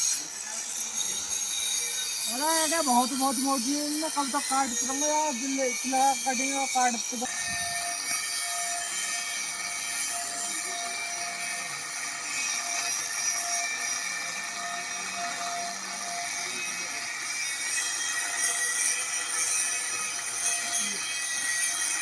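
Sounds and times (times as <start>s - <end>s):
grinder cutting with high whine: 0.0s - 22.0s.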